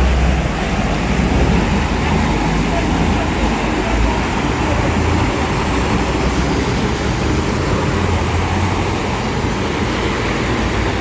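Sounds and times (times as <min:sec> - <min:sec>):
low engine hum: 0:00.0 - 0:11.0
traffic on flooded road: 0:00.0 - 0:11.0
water rushing: 0:00.0 - 0:11.0.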